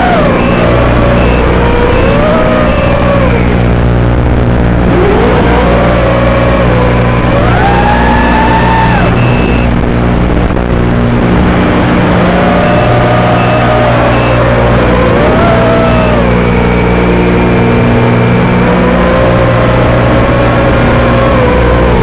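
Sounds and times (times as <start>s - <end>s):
drone motors whining: 0.0s - 22.0s
loud steady electrical buzz: 0.0s - 22.0s.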